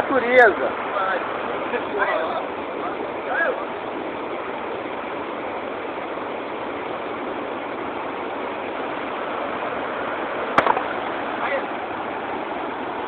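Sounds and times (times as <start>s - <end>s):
waterfall stream rushing over rocks: 0.0s - 13.0s.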